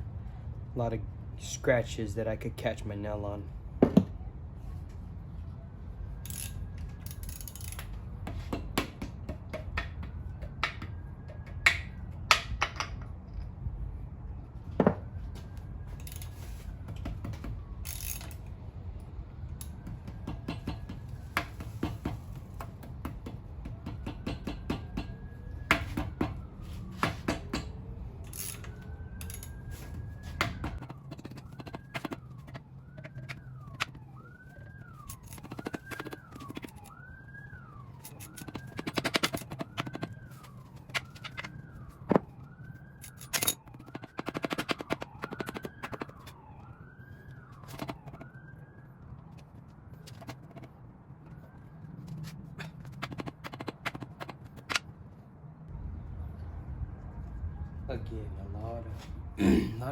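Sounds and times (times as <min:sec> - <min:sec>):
faint siren wailing: 0:00.0 - 0:59.9.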